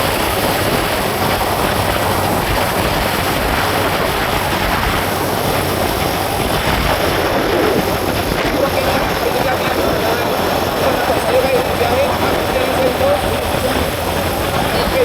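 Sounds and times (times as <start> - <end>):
moving vehicle noise: 0.0 - 15.0
wind rushing over microphone: 0.0 - 15.0.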